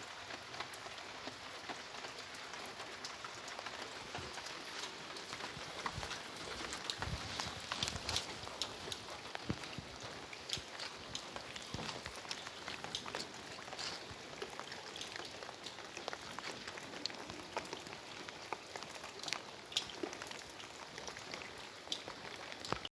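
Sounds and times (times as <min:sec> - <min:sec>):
raindrops pattering on hard surfaces: 0:00.0 - 0:22.9.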